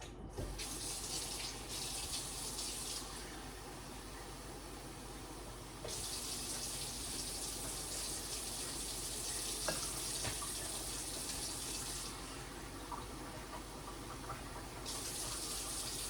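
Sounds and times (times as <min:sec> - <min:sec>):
tap running water into container: 0:00.4 - 0:03.3, 0:04.2 - 0:16.0.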